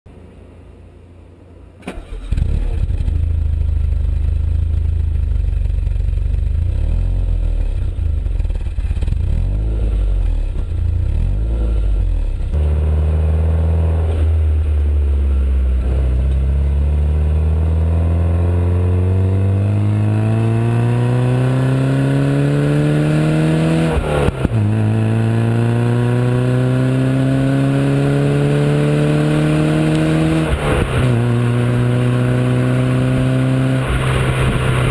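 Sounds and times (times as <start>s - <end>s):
car engine revving: 1.9s - 34.9s.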